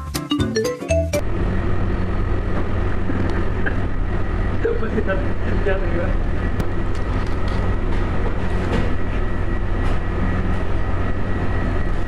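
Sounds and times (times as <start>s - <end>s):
low machine hum: 1.2s - 12.0s.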